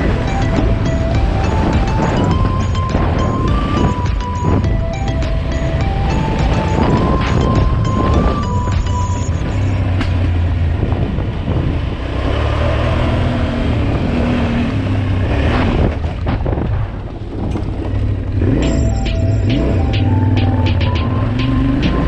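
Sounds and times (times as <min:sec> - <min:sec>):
ground and wind noise: 0:00.0 - 0:22.0.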